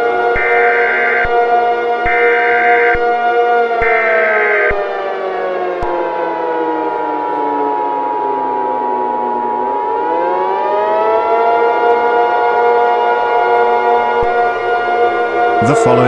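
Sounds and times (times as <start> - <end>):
civil defense siren winding: 0.0 - 16.0
steady siren tone: 0.0 - 16.0.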